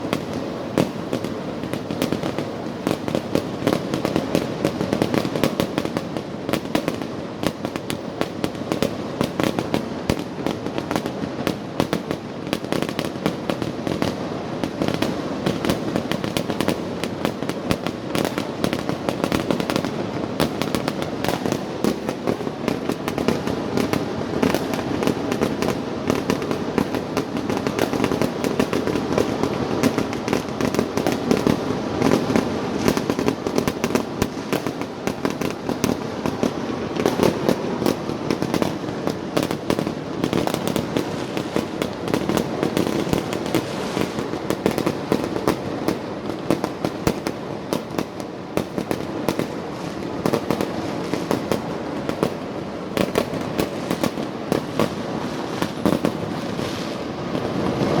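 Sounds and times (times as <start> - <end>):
fireworks cracking and popping: 0.0 - 58.0.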